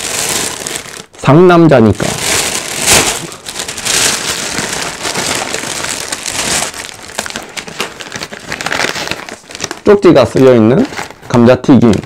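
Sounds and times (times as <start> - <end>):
packaging ripping: 0.0 - 1.2, 1.8 - 12.0
packaging crinkling: 0.0 - 12.0.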